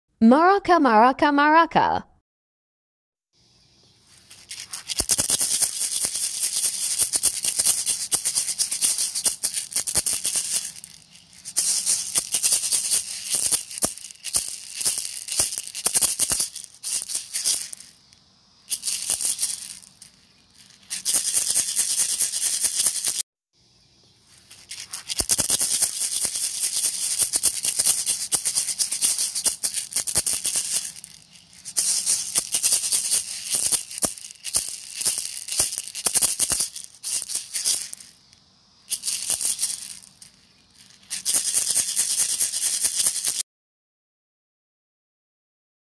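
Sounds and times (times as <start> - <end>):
maraca rattling: 4.0 - 23.2, 24.2 - 43.4.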